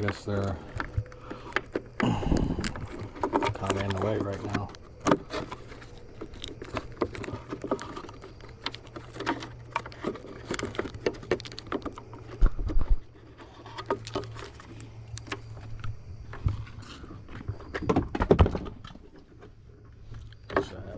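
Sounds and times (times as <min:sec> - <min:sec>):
low steady hum: 0:00.0 - 0:20.9
plastic clicks and rustling: 0:00.0 - 0:20.9.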